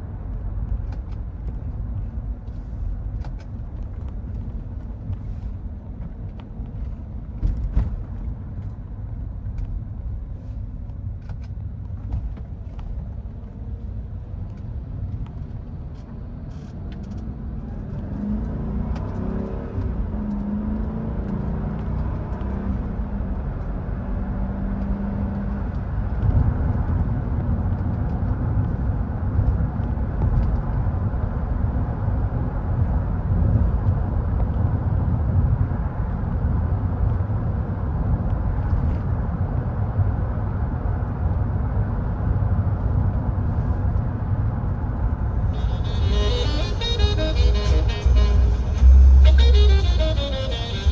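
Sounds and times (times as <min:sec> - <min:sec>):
car engine while driving: 0:00.0 - 0:50.9
road rumble: 0:00.0 - 0:50.9.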